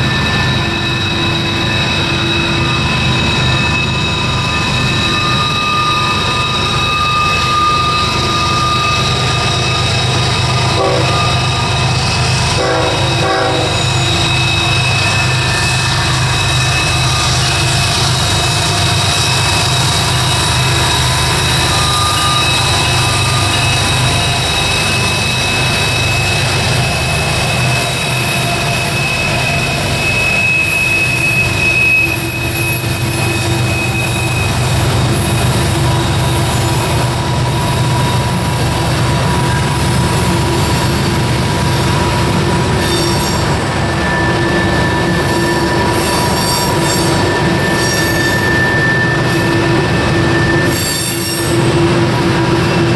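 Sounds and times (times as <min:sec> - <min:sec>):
locomotive engines rumbling: 0:00.0 - 0:52.9
rumble of train wheels: 0:00.0 - 0:52.9
train wheel squeal: 0:00.0 - 0:52.9.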